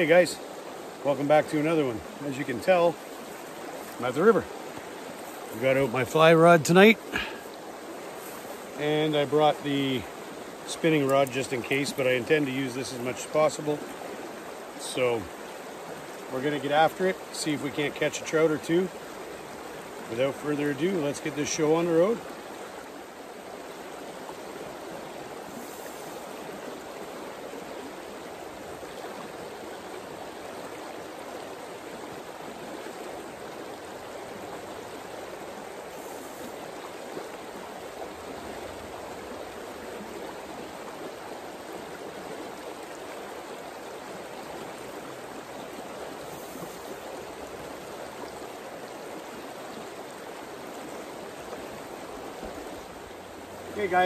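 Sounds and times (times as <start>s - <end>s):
shallow river flowing: 0.0s - 54.0s.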